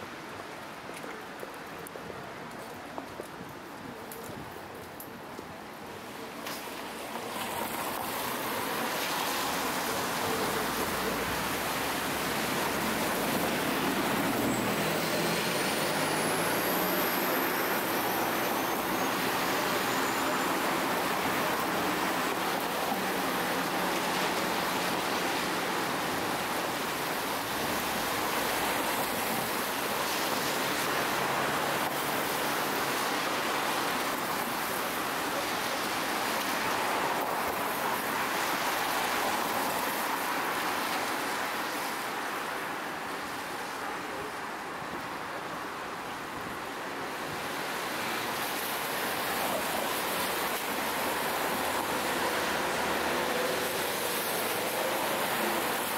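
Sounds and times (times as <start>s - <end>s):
city street traffic: 0.0s - 55.9s.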